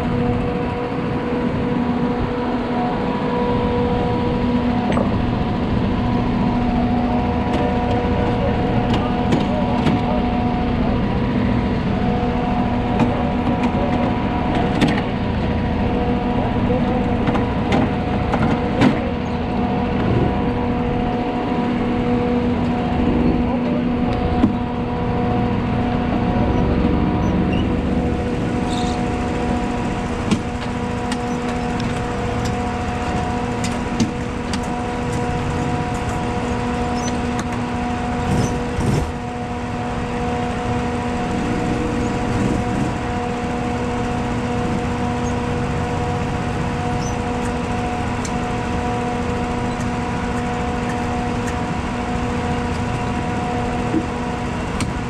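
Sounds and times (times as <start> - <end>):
kart engine idling: 0.0 - 55.0.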